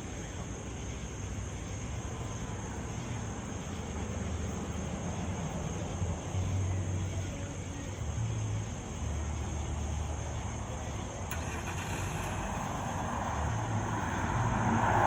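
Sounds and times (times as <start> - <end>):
outdoor background noise: 0.0 - 15.0
vehicle engines rumbling: 0.0 - 15.0.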